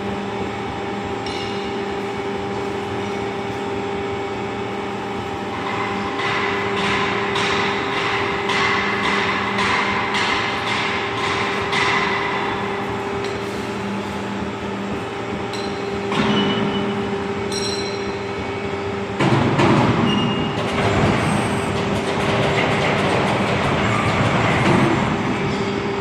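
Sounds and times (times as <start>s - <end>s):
hydraulic machine hum: 0.0s - 26.0s.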